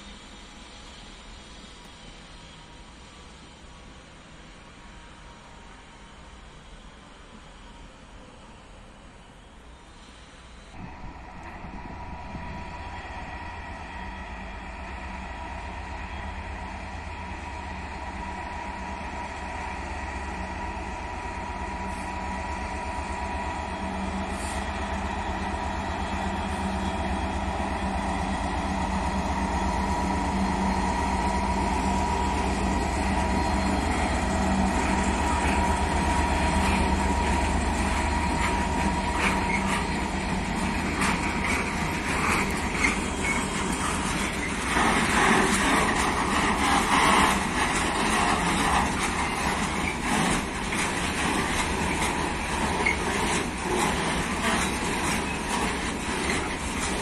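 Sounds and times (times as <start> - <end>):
train rumbling: 0.0 - 57.0
steady high whine: 9.9 - 56.8.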